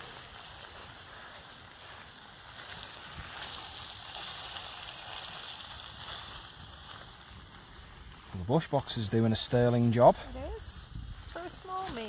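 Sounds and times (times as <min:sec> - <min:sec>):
seafood sizzling in a frying pan: 0:00.0 - 0:12.0.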